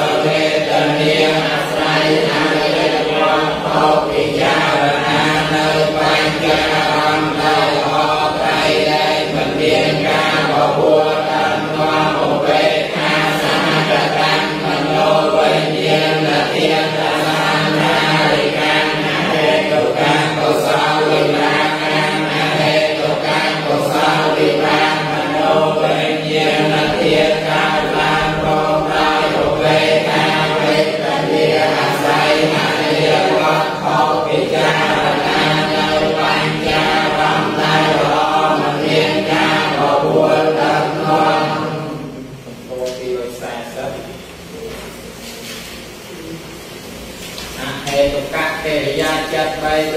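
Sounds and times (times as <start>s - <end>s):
group chanting in unison: 0.0s - 44.0s, 47.5s - 49.9s.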